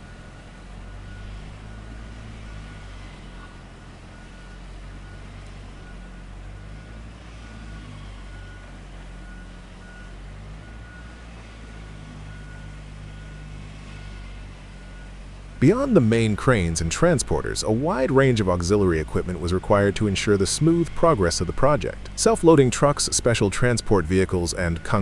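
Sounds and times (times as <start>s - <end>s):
diesel engine running: 0.0s - 25.0s
reversing alarm beeping: 0.0s - 25.0s.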